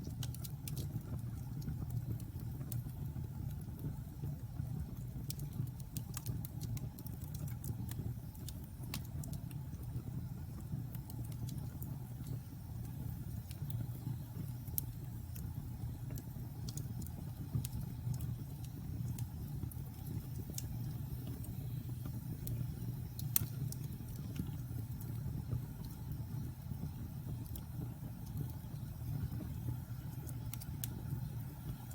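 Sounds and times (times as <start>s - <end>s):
fire crackling and popping: 0.0s - 31.9s
fire flames rumbling: 0.0s - 31.9s.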